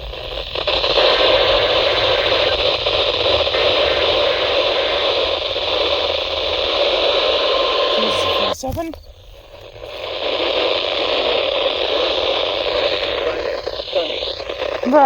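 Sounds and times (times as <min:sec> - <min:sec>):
radio static hissing: 0:00.0 - 0:15.0.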